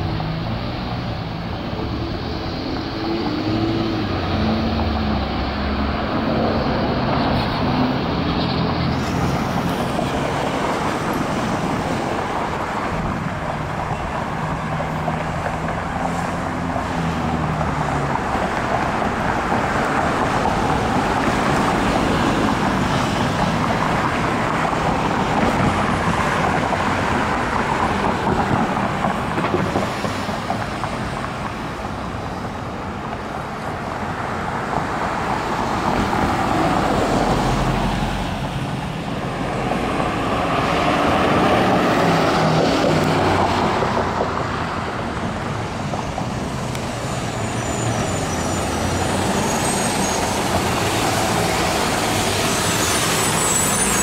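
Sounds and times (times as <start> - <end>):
cars driving by: 0.0 - 54.0.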